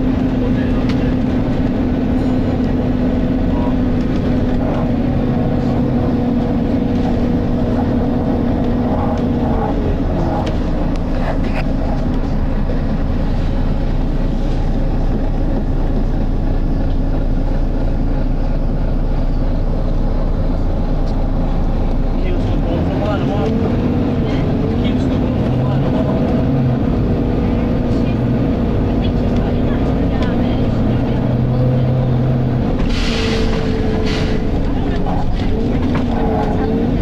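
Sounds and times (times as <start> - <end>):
bus engine low rumble: 0.0 - 37.0.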